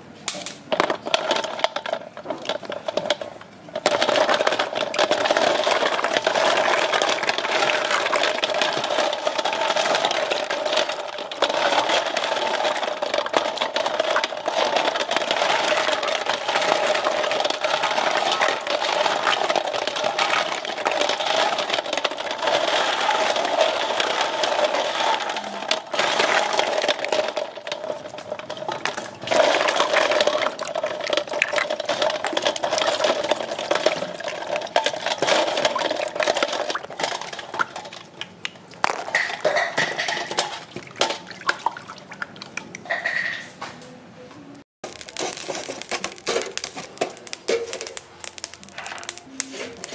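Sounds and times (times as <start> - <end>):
snail shells clattering in basin: 0.4 - 43.4, 44.8 - 49.9.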